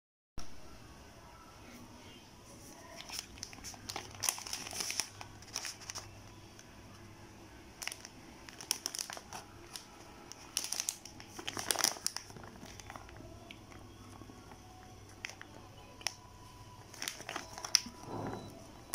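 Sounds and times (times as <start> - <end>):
plastic packaging crinkling: 2.6 - 6.7, 7.8 - 18.9.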